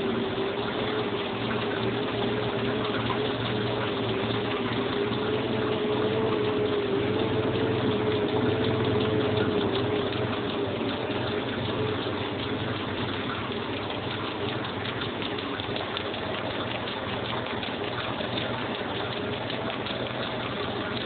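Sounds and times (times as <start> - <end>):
compressor running: 0.0 - 21.0.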